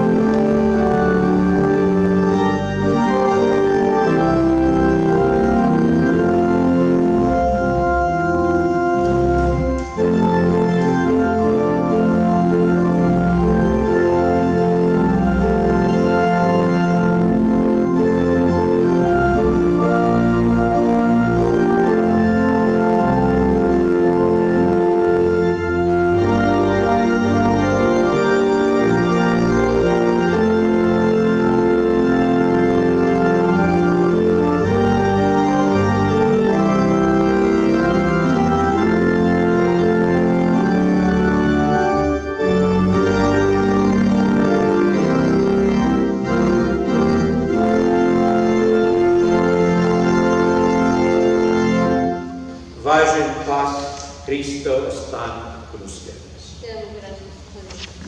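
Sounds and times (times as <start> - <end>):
church organ playing chords: 0.0 - 56.8.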